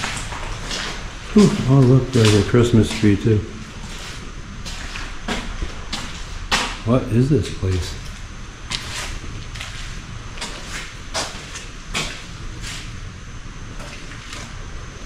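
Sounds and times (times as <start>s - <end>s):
footsteps crunching on floor: 0.0s - 6.9s, 7.6s - 13.0s
low steady rumble: 0.0s - 15.0s.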